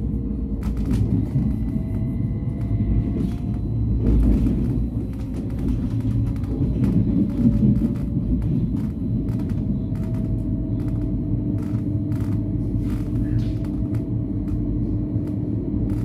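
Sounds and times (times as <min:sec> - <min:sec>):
train hum: 0:00.0 - 0:16.0
train wheels rumbling on track: 0:00.0 - 0:16.0.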